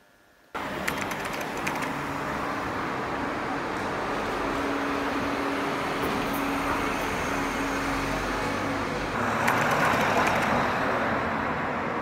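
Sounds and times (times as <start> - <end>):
city noise: 0.0 - 12.0
road traffic engine hum: 0.5 - 12.0.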